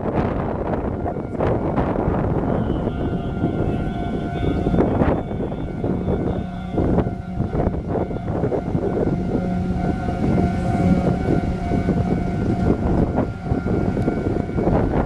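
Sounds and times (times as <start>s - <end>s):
level crossing alarm: 0.0s - 15.0s
train wheels rumbling on rails: 0.0s - 15.0s.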